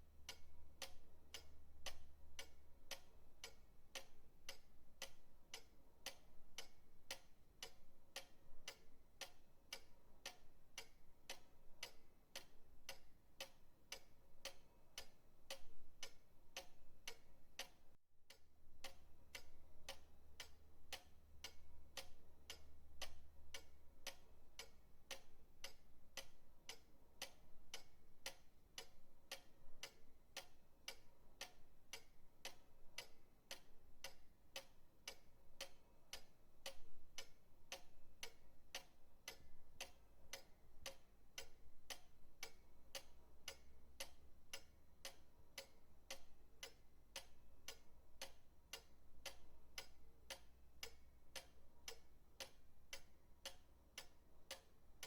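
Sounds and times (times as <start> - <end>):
pendulum clock ticking: 0.0 - 55.0.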